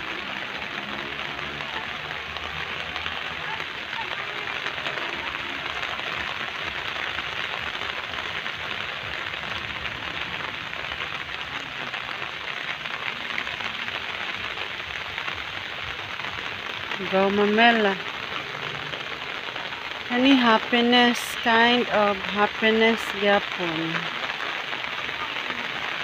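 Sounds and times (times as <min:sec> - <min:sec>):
rain on leaves: 0:00.0 - 0:26.0.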